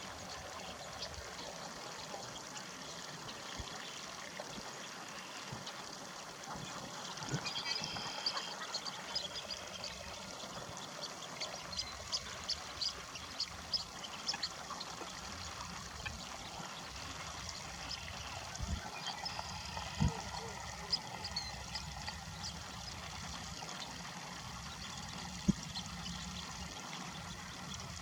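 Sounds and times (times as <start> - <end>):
watery whirring of feeding duck: 0.0 - 28.0.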